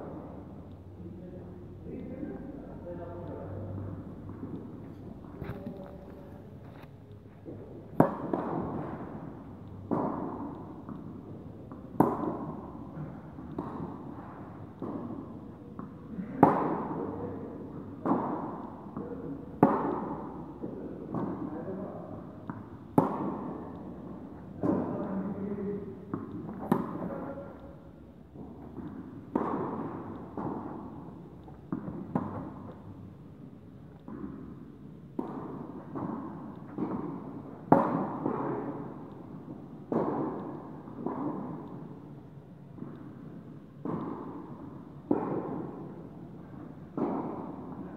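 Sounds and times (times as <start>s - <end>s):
tennis ball hit by racquet: 3.9s - 33.1s, 33.9s - 42.1s, 42.8s - 47.9s.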